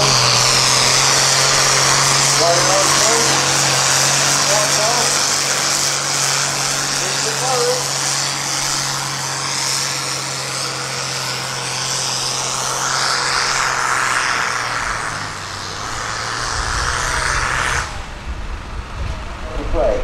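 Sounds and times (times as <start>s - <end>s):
deep rumble: 0.0s - 20.0s
engine running: 0.0s - 20.0s
rushing roar: 0.0s - 20.0s.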